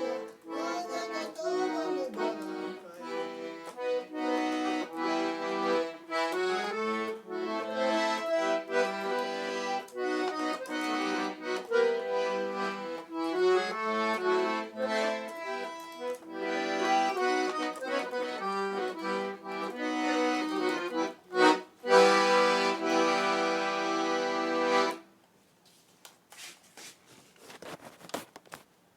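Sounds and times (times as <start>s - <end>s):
accordion playing: 0.0s - 25.1s.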